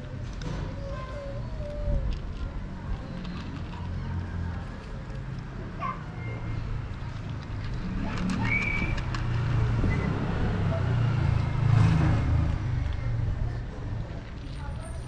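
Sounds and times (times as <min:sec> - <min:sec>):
vehicle engine rumble passing: 0:00.0 - 0:15.0.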